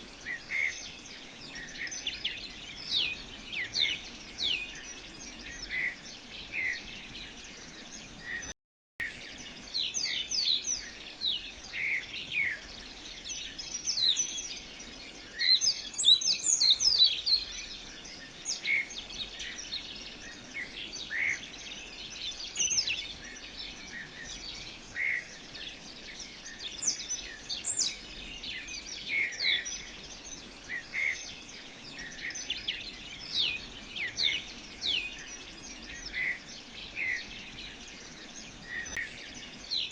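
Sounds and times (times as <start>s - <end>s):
background hiss: 0.0s - 39.9s
birds chirping: 0.0s - 39.9s.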